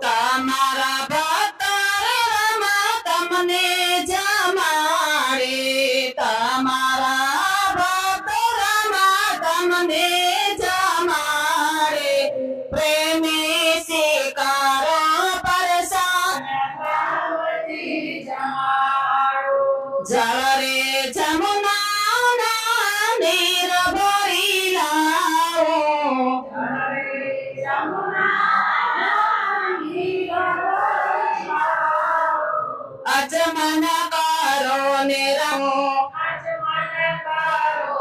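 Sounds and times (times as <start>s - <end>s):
high voice singing: 0.0s - 38.0s.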